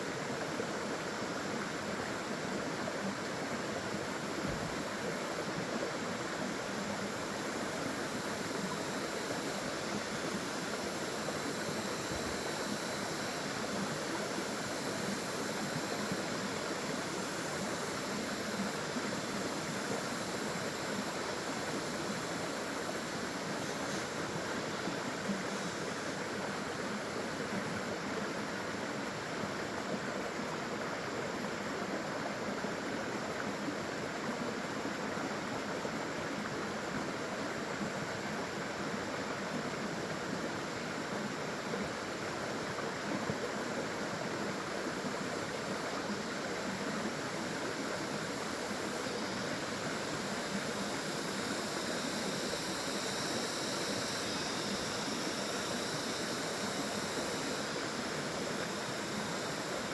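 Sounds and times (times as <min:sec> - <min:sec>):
flowing stream water: 0:00.0 - 0:59.9
small waterfall: 0:00.0 - 0:59.9.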